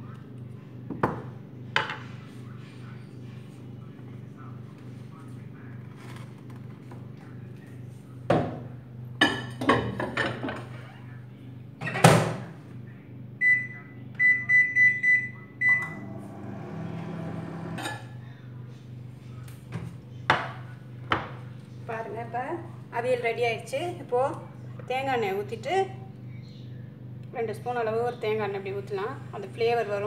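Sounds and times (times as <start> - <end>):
microwave oven whirring: 0.0 - 30.0.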